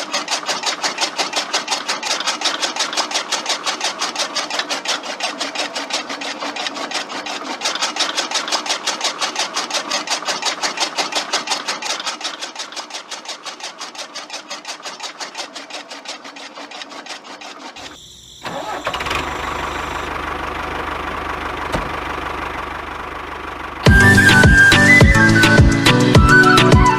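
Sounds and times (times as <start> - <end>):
small motor clattering rhythmically: 0.0 - 26.9
steady motor hum: 0.0 - 26.9.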